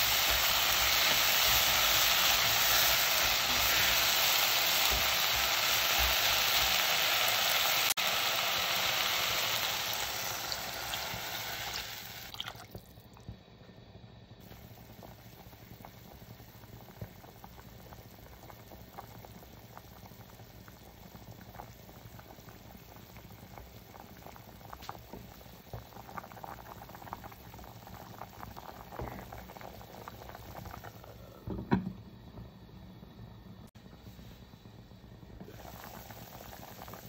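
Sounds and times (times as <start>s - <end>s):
soup bubbling at the boil: 0.0s - 13.5s, 14.4s - 37.0s.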